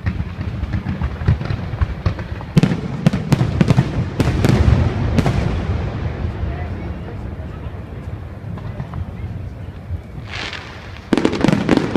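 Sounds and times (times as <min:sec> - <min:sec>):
loud firework bangs: 0:00.0 - 0:09.5, 0:10.2 - 0:11.9
fireworks rumbling and crackling: 0:00.0 - 0:11.9.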